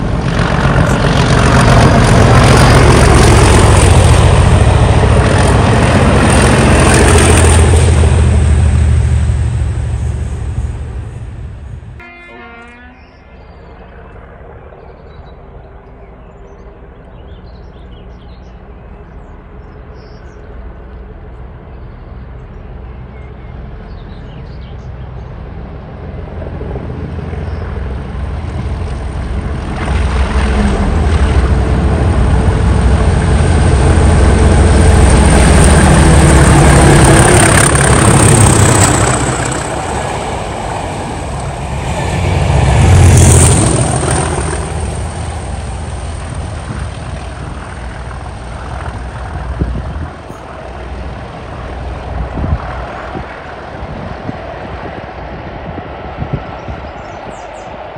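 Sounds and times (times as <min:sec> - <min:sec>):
diesel locomotives passing: 0:00.0 - 0:57.9.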